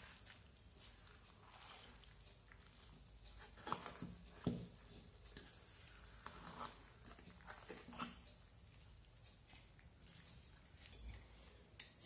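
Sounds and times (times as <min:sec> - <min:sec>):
spoon stirring dry mixture in pan: 0:00.0 - 0:12.0.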